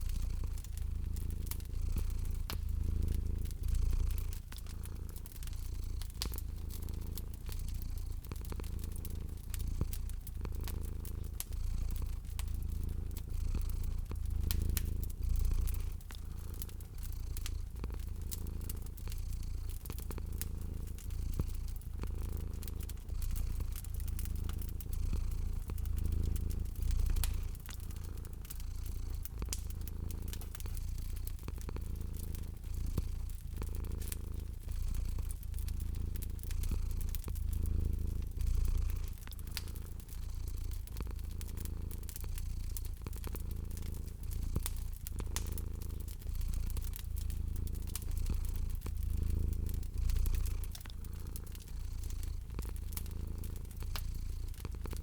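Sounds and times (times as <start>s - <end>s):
cat purring: 0.0s - 55.0s
crackling fireplace: 0.0s - 55.0s.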